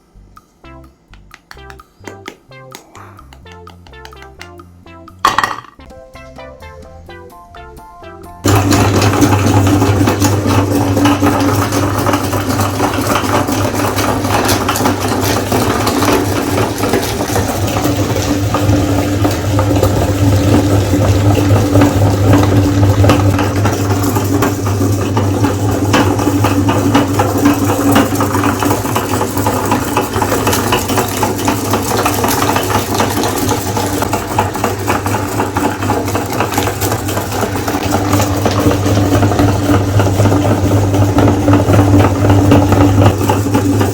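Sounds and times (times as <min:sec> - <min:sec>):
electric meat grinder motor hum: 0:08.4 - 0:43.9.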